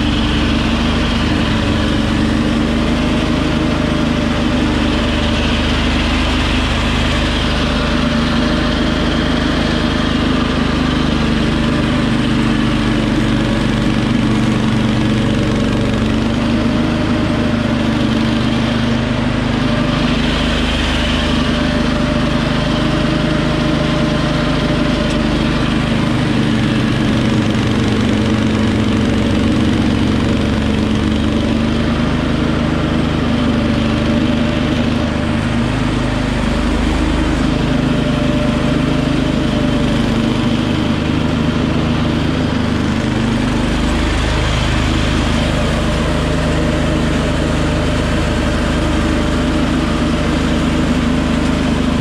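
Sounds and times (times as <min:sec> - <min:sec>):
tractor engine running under load: 0:00.0 - 0:52.0.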